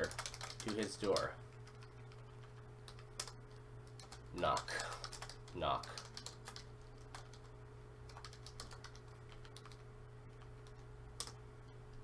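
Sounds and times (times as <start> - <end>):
keyboard typing: 0.0 - 7.5, 8.1 - 11.4
steady low hum: 0.0 - 12.0.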